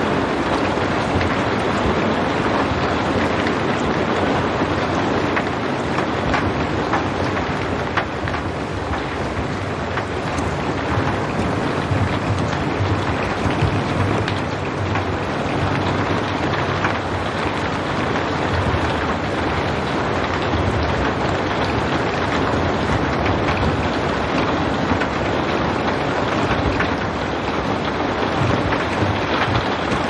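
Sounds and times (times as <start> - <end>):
steady rain hiss: 0.0 - 30.0
rain drop ticks: 0.1 - 30.0.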